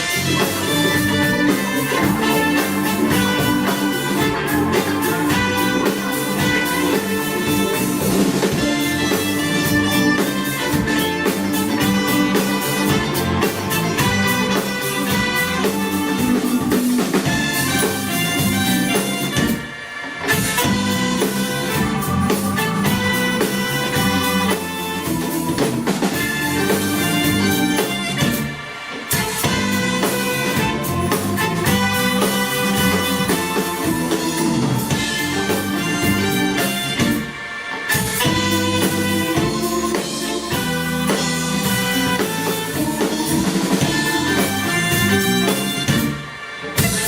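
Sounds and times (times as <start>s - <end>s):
drum kit: 0.0s - 47.0s
live band playing: 0.0s - 47.0s.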